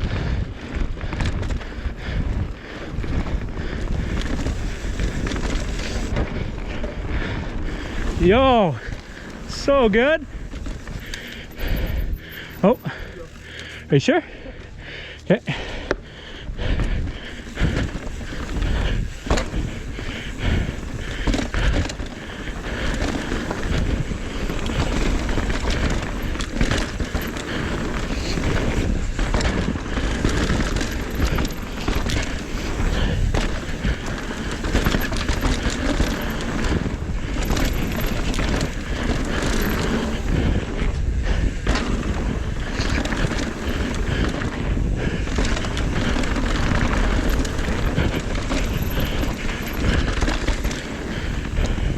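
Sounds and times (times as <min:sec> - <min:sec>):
bike knocks and rattles: 0:00.0 - 0:13.9, 0:15.5 - 0:51.9
tyre and wind rush: 0:00.0 - 0:51.9.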